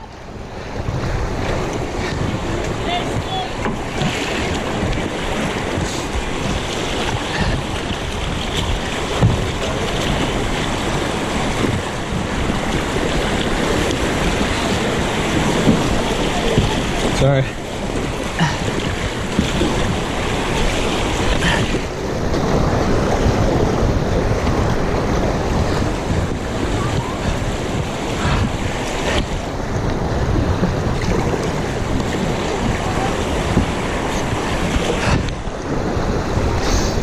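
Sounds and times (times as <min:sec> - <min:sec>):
river whitewater rushing: 0:00.0 - 0:37.0
wind buffeting microphone: 0:00.0 - 0:37.0.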